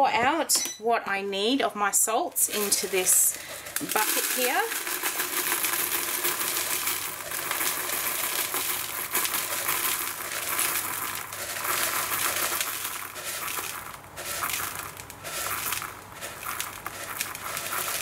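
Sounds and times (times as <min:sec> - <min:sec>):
flakes pouring into plastic bowl: 0:02.4 - 0:18.0.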